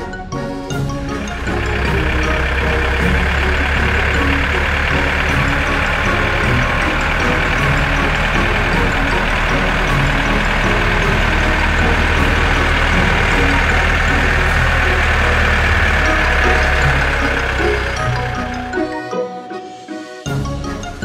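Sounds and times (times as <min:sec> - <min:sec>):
tractor engine running: 0:00.8 - 0:19.1.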